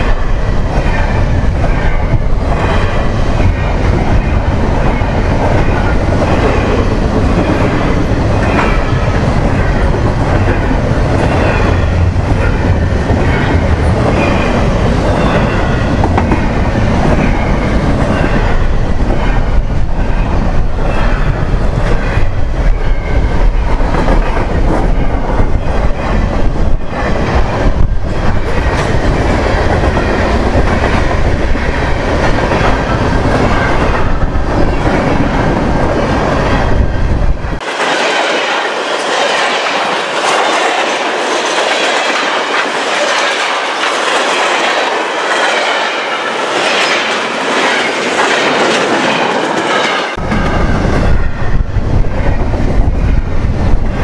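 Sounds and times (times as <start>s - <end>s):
freight train rumbling past: 0.0s - 54.0s
wheels clattering on rails: 0.0s - 54.0s.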